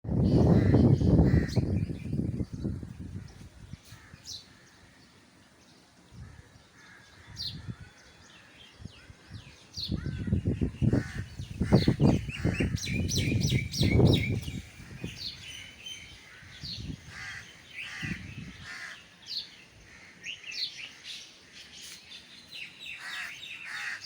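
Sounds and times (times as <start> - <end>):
wild birds chirping: 0.1 - 24.0.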